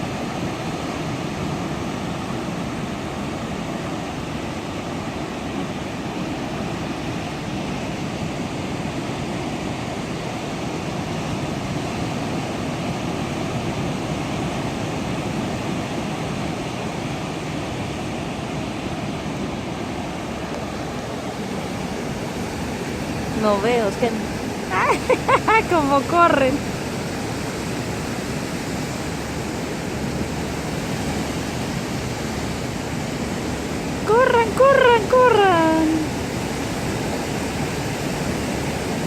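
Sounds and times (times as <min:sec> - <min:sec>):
sea surf rushing on beach: 0:00.0 - 0:39.0.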